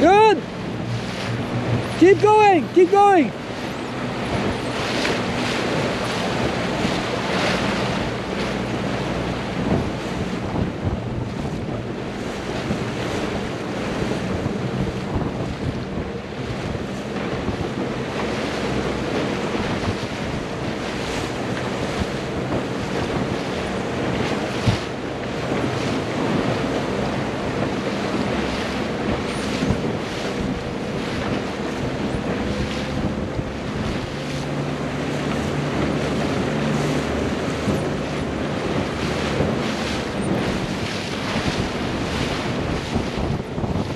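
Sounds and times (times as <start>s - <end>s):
choppy water splashing: 0.0s - 43.9s
motorboat engine hum: 0.0s - 43.9s
wind buffeting microphone: 0.0s - 43.9s.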